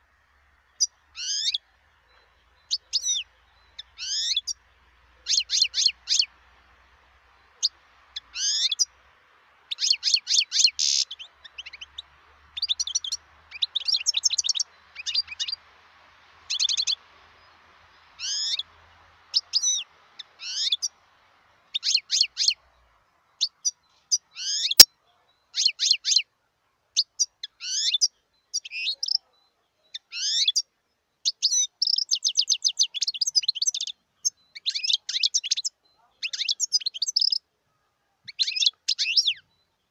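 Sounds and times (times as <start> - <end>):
goldfinch singing: 0.0 - 9.0, 9.6 - 26.3, 27.0 - 37.5, 38.3 - 39.9.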